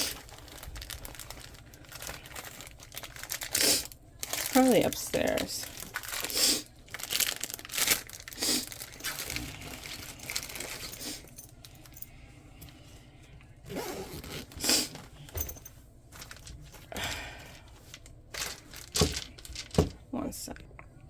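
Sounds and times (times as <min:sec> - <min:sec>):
packaging crinkling and rustling: 0:00.0 - 0:12.0, 0:14.0 - 0:20.1.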